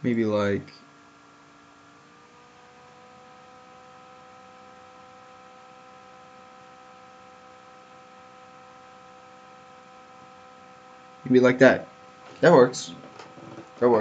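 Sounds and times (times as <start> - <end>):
low hum of held tones: 0.0 - 14.0.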